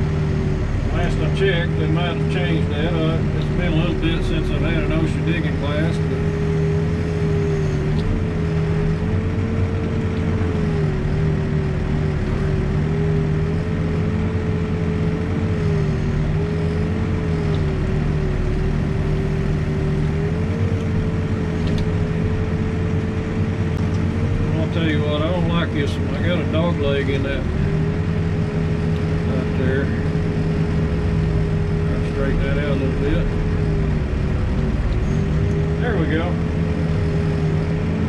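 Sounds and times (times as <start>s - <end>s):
backhoe diesel engine running: 0.0s - 38.0s
wavering whine: 0.0s - 38.0s.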